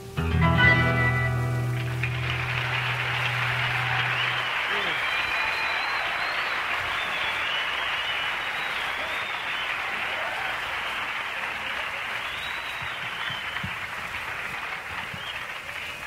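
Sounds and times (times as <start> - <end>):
audience applauding: 1.0 - 16.0
high whistles: 2.0 - 16.0.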